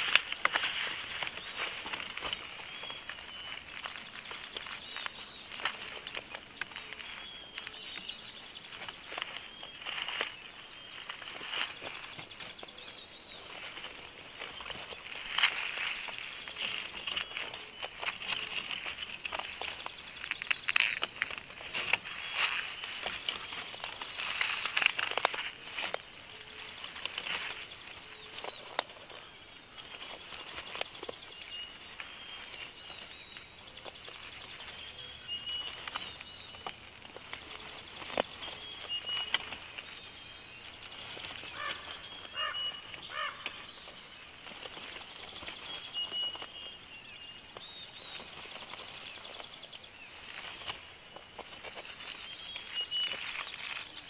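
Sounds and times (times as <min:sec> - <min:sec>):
nest sticks rustling and knocking: 0:00.0 - 0:54.0
songbird singing: 0:00.0 - 0:54.0.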